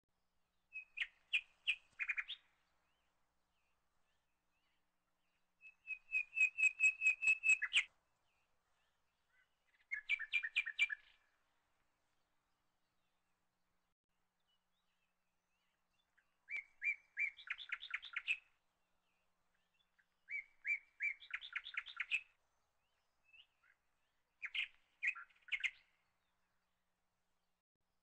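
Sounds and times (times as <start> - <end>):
bird chirping: 0.5 - 11.4, 14.4 - 26.6.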